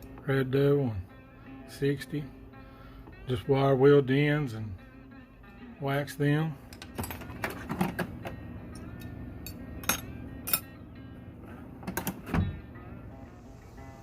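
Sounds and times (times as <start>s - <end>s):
quiet background music: 0.0s - 14.0s.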